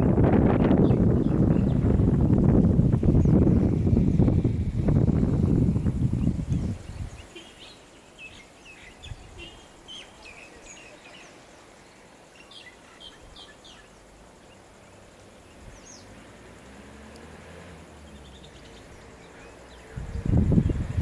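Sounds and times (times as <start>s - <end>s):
small birds chirping: 0.5s - 21.0s.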